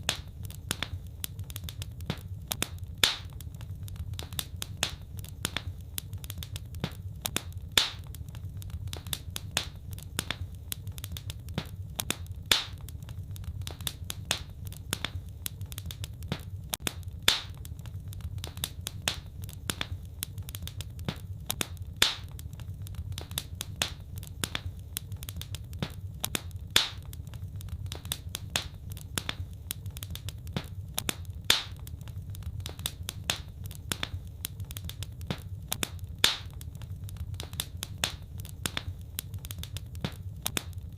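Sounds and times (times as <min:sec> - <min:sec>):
fire crackling: 0:00.0 - 0:40.9
fire popping: 0:00.0 - 0:40.9.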